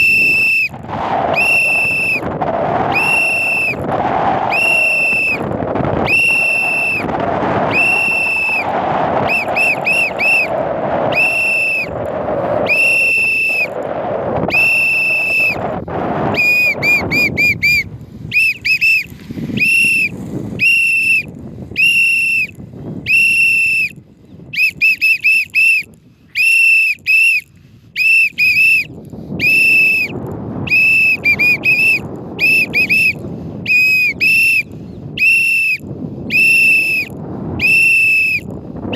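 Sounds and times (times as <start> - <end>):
whistle blasts: 0.0 - 3.8, 4.4 - 12.0, 12.6 - 13.8, 14.5 - 15.7, 16.3 - 38.5
wind on microphone: 0.0 - 38.9.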